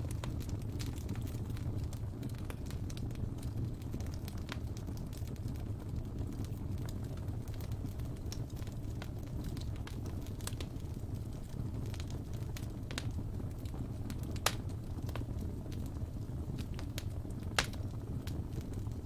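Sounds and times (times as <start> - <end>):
fire crackles and pops: 0.0 - 19.0
low rumble of fire flames: 0.0 - 19.0.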